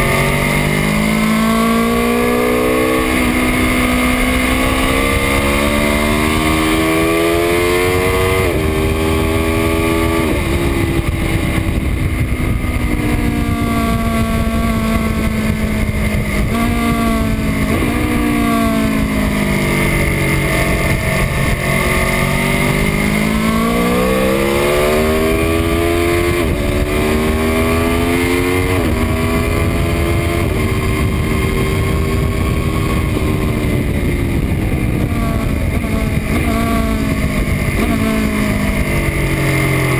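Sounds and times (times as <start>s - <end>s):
motorcycle engine accelerating hard: 0.0s - 39.9s
wind rushing over microphone: 0.0s - 39.9s.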